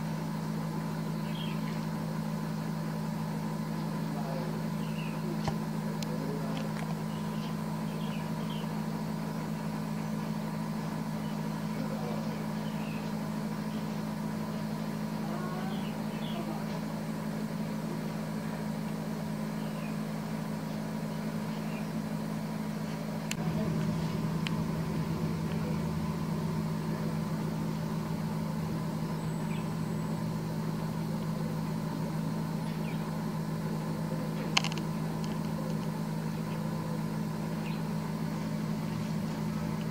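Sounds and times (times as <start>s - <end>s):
low machine hum: 0.0s - 39.9s
deeper rumble: 3.5s - 39.9s.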